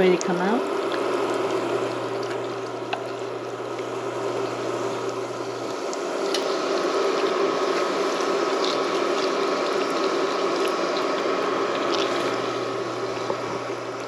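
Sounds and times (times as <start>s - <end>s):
donuts sizzling in hot oil: 0.0s - 14.0s
low hum: 0.2s - 14.0s.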